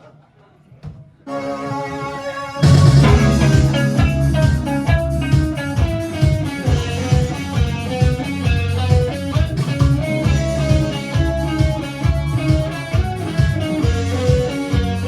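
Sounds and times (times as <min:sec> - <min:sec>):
electric guitar melody: 0:01.3 - 0:15.0
bass guitar: 0:01.8 - 0:15.0
steady drum beat: 0:02.6 - 0:15.0.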